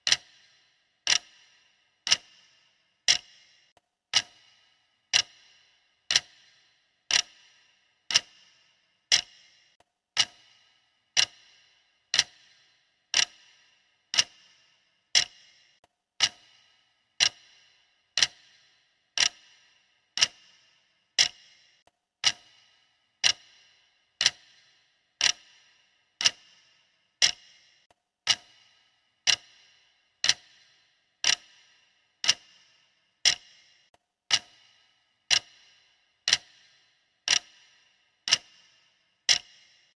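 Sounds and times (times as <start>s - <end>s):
timer ticking with short ring: 0.0s - 39.9s.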